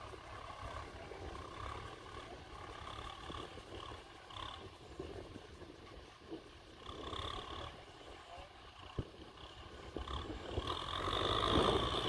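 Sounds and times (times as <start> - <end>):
distant tractor engine rumbling: 0.0 - 12.0.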